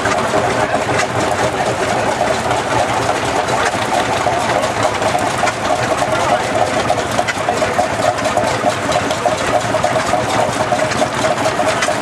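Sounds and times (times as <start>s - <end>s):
tractor engines clattering: 0.0s - 12.0s.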